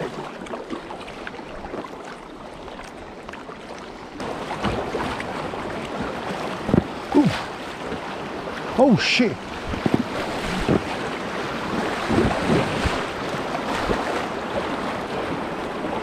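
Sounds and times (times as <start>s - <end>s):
river water rushing and splashing: 0.0s - 16.0s.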